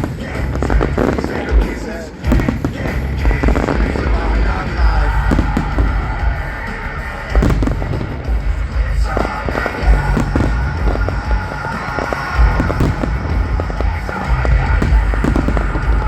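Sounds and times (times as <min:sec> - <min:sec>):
fireworks bursting: 0:00.0 - 0:16.0
music from loudspeakers: 0:00.0 - 0:16.0.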